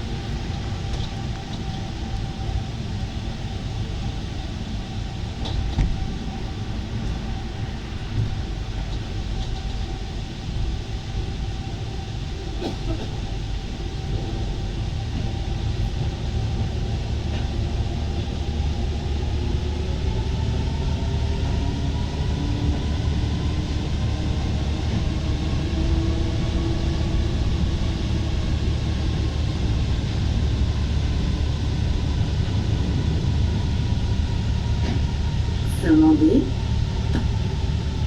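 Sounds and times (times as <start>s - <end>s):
metro train rumbling in tunnel: 0.0s - 38.0s.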